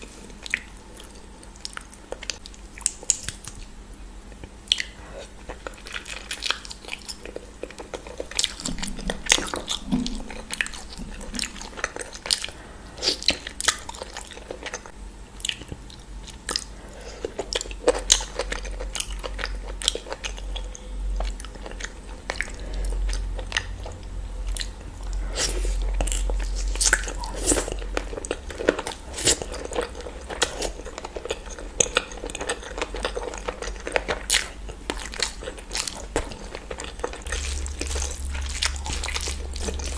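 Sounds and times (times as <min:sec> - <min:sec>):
person eating and chewing: 0:00.0 - 0:39.9.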